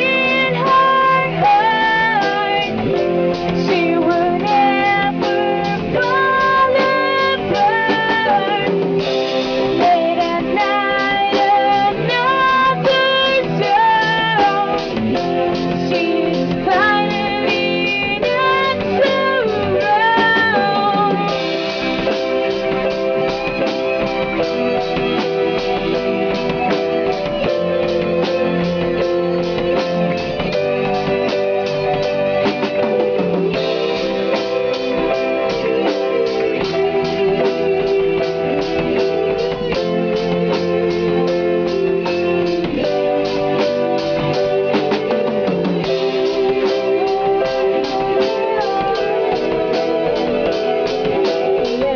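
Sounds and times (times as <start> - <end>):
bending melodic lead line: 0.0 - 51.9
guitars playing: 0.0 - 51.9
steady drum beat: 0.0 - 51.9.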